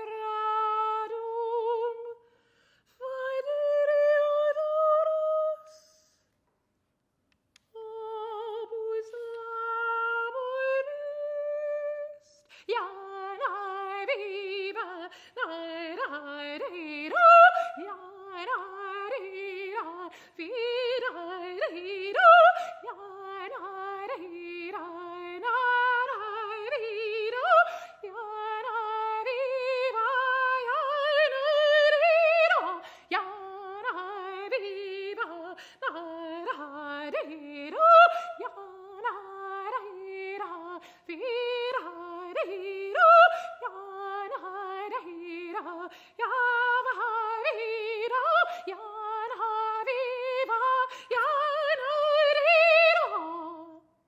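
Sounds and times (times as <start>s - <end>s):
soprano voice singing: 0.0s - 2.3s, 2.9s - 6.3s, 7.6s - 54.0s.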